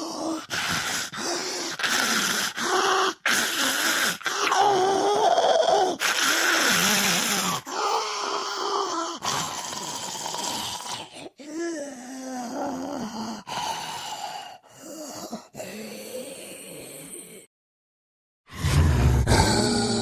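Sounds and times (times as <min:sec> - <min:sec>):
zombie moans and groans: 0:00.0 - 0:17.4, 0:19.1 - 0:20.0.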